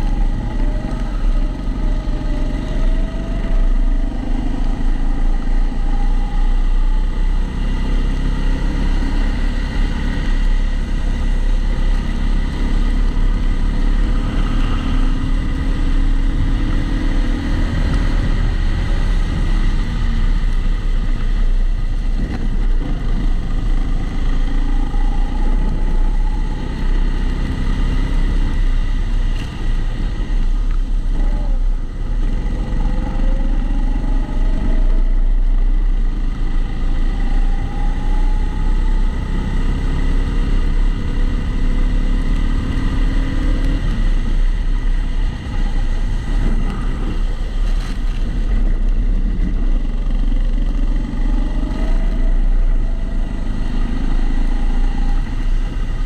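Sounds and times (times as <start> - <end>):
muffled kart engine: 0.0 - 56.0.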